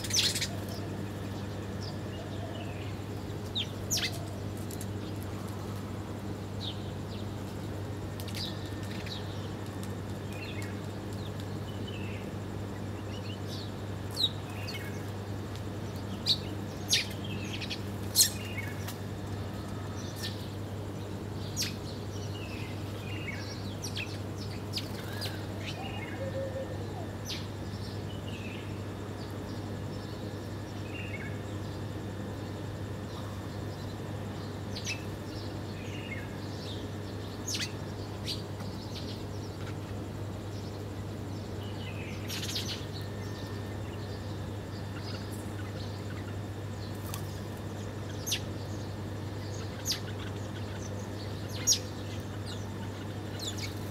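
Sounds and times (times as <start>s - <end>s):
sparrows chirping: 0.0s - 53.9s
steady low hum: 0.0s - 53.9s.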